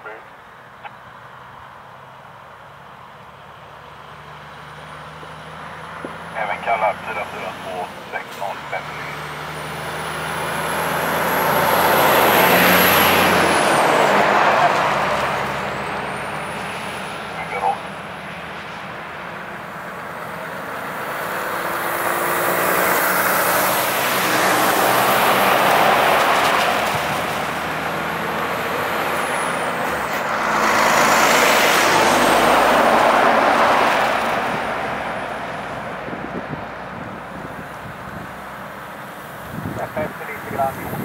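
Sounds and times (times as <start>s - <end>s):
trucks driving past: 0.0s - 41.0s.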